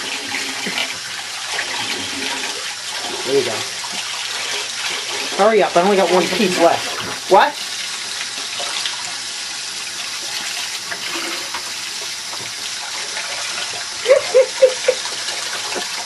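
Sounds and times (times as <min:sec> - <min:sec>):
water running from a tap: 0:00.0 - 0:16.0.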